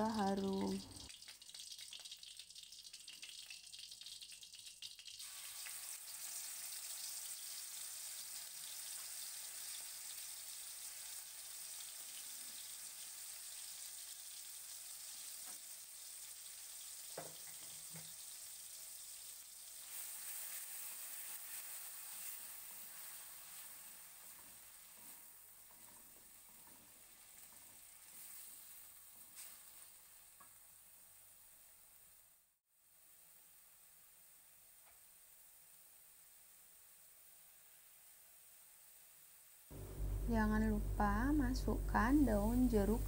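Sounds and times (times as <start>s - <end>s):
spice paste sizzling in oil: 0.0s - 43.0s.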